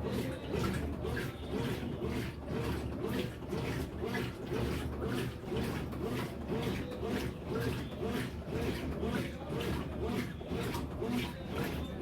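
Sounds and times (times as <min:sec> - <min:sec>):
water and clothes churning: 0:00.0 - 0:12.0
washing machine motor hum: 0:00.1 - 0:12.0.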